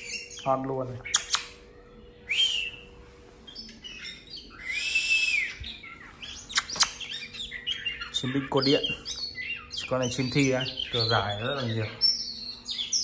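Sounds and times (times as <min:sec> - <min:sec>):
bird chirps: 0:00.0 - 0:13.0
bird whistling song: 0:00.0 - 0:13.0.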